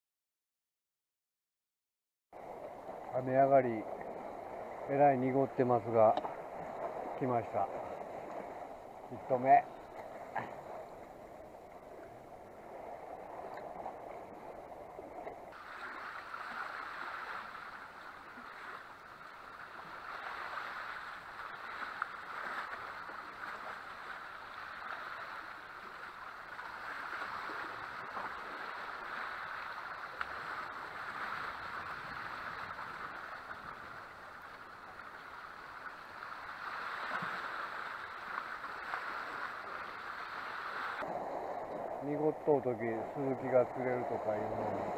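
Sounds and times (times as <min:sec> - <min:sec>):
sea water splashing against rocks: 0:02.4 - 0:44.9.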